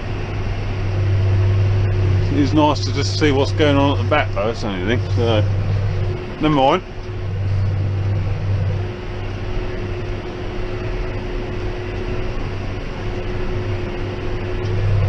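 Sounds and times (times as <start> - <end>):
baler whine: 0.0 - 15.0
tractor engine drone: 0.0 - 15.0.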